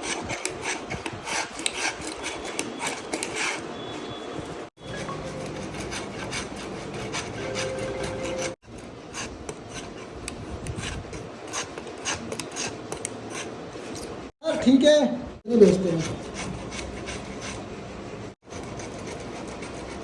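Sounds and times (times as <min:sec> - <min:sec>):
file scraping wood: 0:00.0 - 0:04.2, 0:04.8 - 0:14.8, 0:15.5 - 0:20.0.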